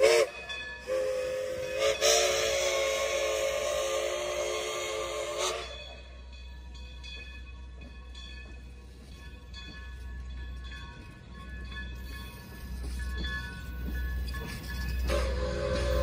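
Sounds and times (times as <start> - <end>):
train cars rumbling past: 0.0 - 16.0.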